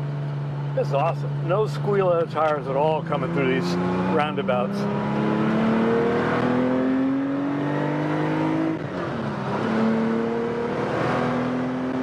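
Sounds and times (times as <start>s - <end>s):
car engine accelerating hard: 1.3s - 12.0s.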